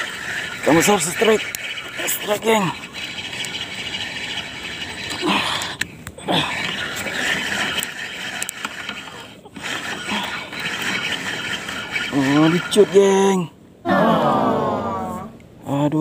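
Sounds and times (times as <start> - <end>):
fishing reel gears whirring: 0.0 - 13.5.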